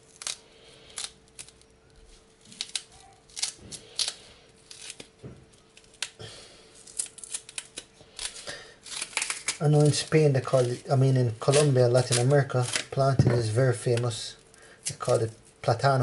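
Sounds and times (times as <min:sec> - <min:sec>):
plantain skin scraping and snapping: 0:00.0 - 0:06.2, 0:06.8 - 0:15.7.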